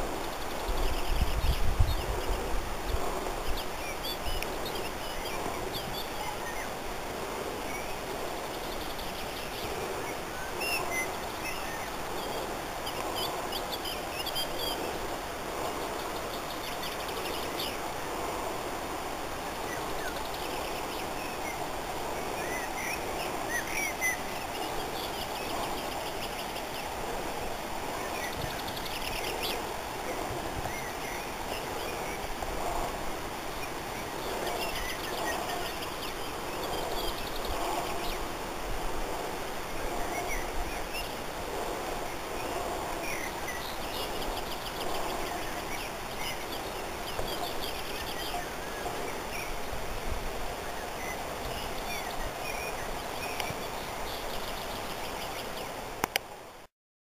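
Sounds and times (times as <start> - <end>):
wild birds chirping: 0.0 - 56.6
steady background hiss: 0.0 - 56.7.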